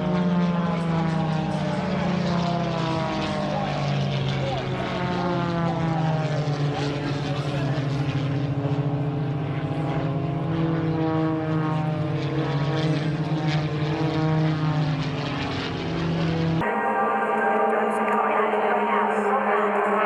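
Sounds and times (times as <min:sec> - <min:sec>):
propeller airplane flying past: 0:00.0 - 0:16.6.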